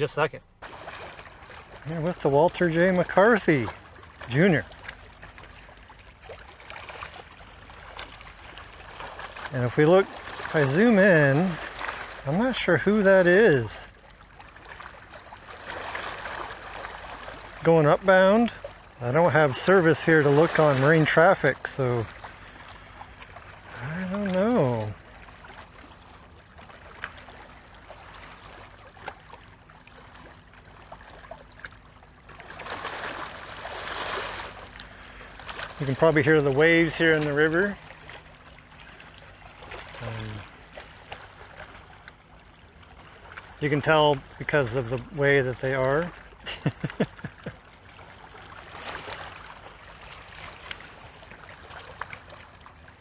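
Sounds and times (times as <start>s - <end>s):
light water splashes: 0.0s - 53.0s
waves lapping at shoreline: 0.0s - 53.0s.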